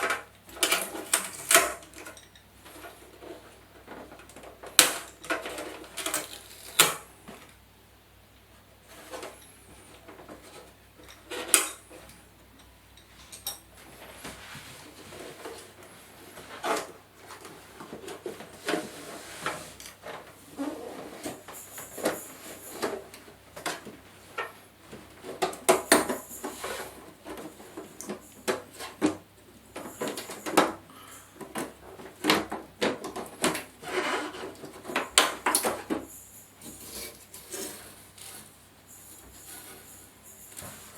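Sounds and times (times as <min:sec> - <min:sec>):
hand tools and parts clattering: 0:00.0 - 0:07.6, 0:08.8 - 0:40.9.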